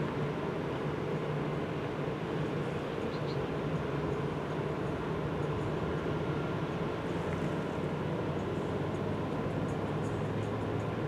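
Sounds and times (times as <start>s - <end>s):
distant ship engine drone: 0.0s - 11.0s.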